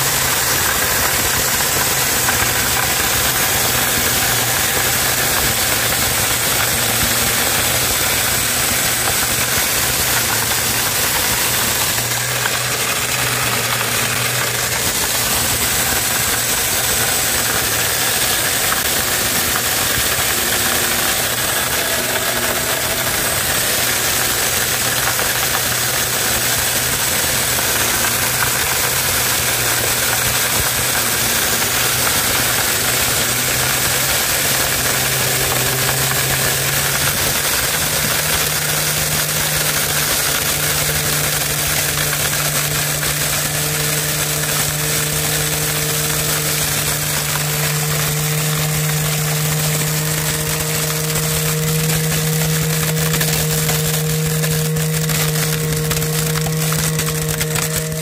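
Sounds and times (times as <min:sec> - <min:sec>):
corn mill whirring: 0:00.0 - 0:58.0
low motor hum: 0:00.0 - 0:58.0.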